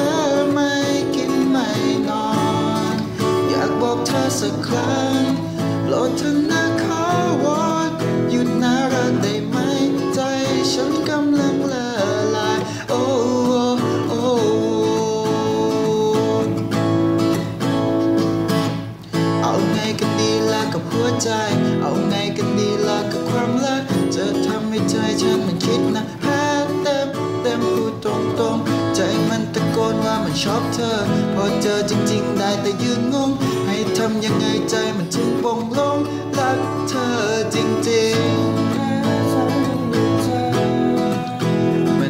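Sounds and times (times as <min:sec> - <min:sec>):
guitar with band accompaniment: 0:00.0 - 0:42.0.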